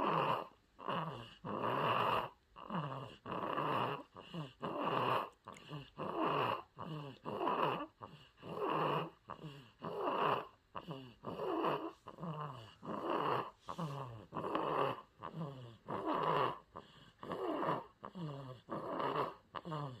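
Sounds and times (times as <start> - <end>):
baby snoring: 0.0 - 20.0.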